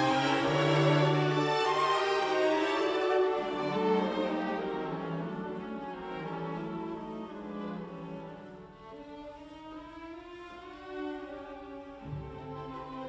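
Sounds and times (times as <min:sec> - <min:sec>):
violin and cello music: 0:00.0 - 0:13.0.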